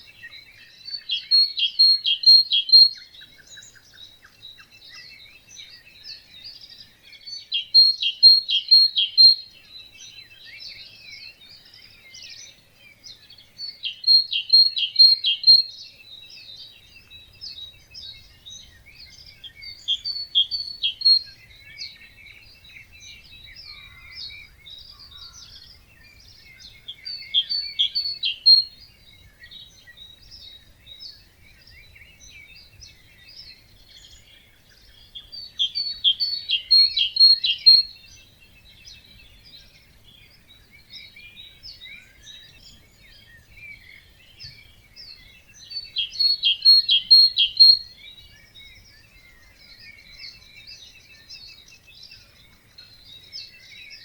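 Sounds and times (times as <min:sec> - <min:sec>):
fainter bird songs and calls: 0:00.0 - 0:54.0
nearby bird loud song: 0:00.0 - 0:54.0.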